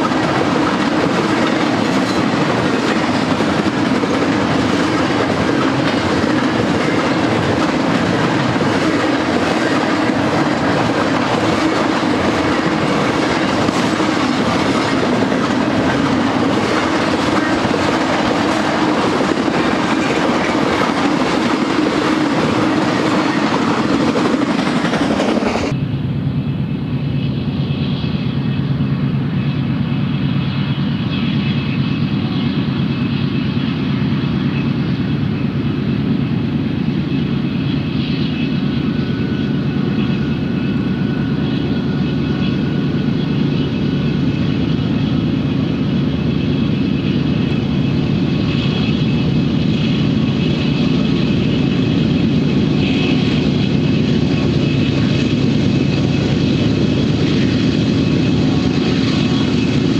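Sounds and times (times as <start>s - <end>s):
distant train hum: 0.0s - 59.9s
train wheels rumbling on rails: 0.0s - 59.9s.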